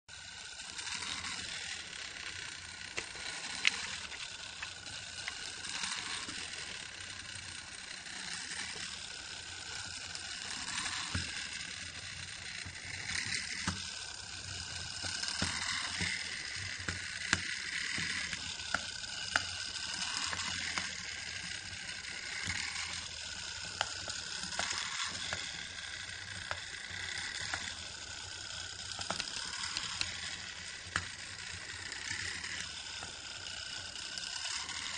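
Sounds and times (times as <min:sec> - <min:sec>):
clockwork mechanism purring: 0:00.1 - 0:34.9.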